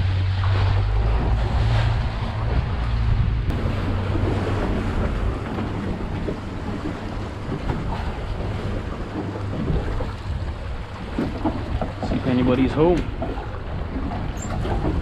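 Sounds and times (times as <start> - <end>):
wind noise on microphone: 0.0 - 12.1
boat engine humming: 0.0 - 15.0
rough sea wash: 0.0 - 15.0.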